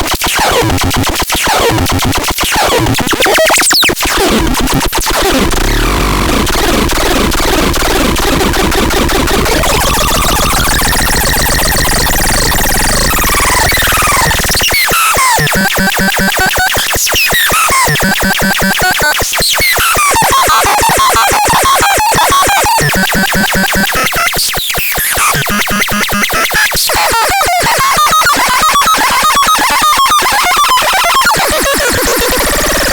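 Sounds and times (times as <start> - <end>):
fast stuttering electronic clicks: 0.1 - 28.6, 29.2 - 32.9.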